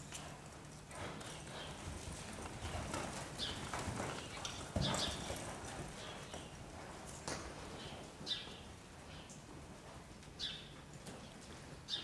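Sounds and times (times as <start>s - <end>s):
horse hooves thudding in dirt: 0.0s - 11.8s.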